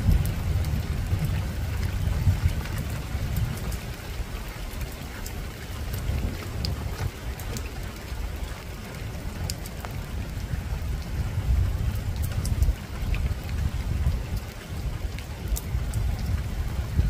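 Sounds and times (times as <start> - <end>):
rain on a rooftop: 0.0 - 17.0.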